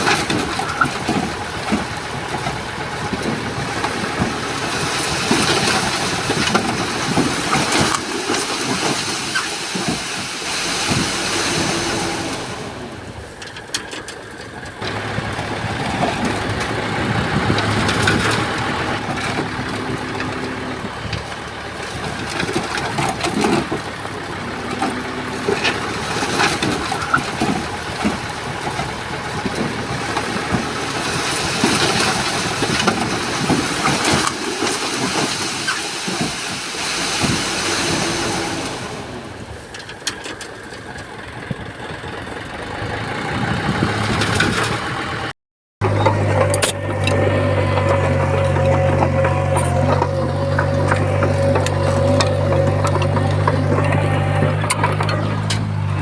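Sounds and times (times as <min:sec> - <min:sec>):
knocks and clatter: 0:00.0 - 0:11.8, 0:13.4 - 0:37.8, 0:43.6 - 0:56.0
bulldozer diesel engine: 0:00.0 - 0:56.0.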